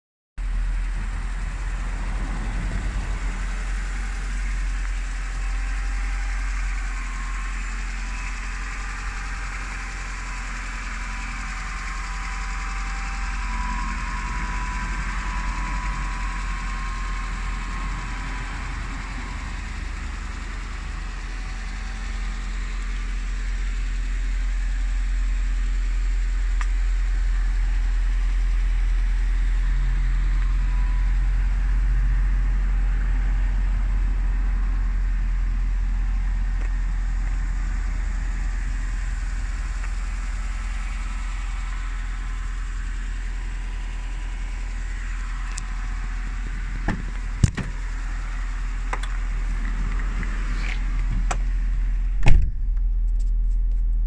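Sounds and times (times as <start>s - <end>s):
car engine idling: 0.4s - 54.0s.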